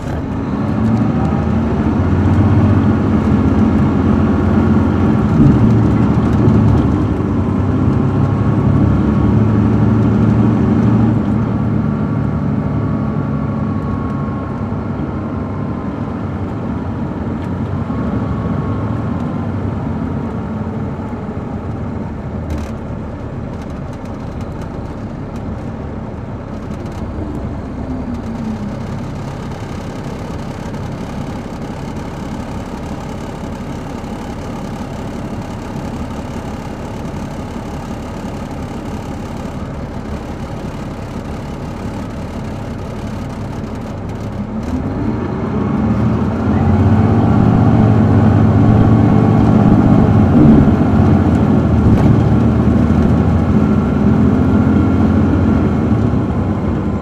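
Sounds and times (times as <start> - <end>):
bus diesel engine accelerating: 0.0 - 57.0
engine whine: 0.0 - 57.0.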